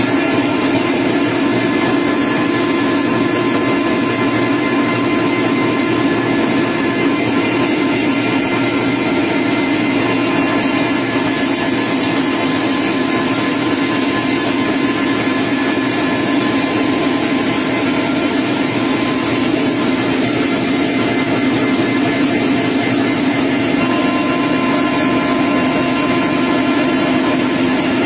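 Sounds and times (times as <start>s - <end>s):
machinery drone: 0.0s - 28.0s
thin constant whine: 0.0s - 28.0s.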